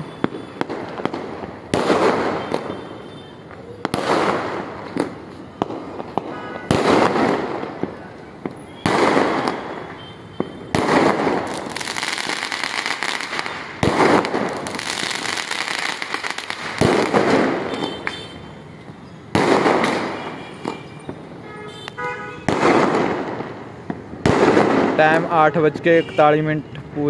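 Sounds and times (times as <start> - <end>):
firework bangs: 0.0 - 18.5, 19.3 - 25.4
firecracker crackling: 0.0 - 25.5.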